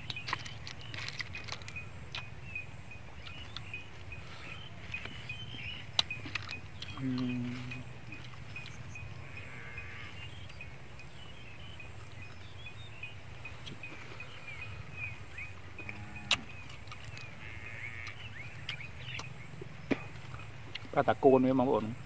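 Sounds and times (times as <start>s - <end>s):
small birds chirping: 0.0s - 22.0s
steady low hum: 0.0s - 22.0s.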